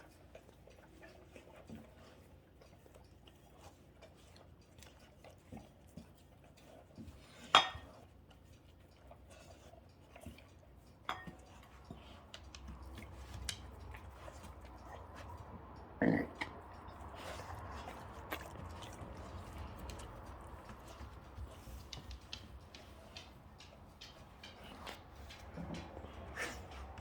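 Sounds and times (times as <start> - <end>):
dogs chewing: 0.0 - 27.0.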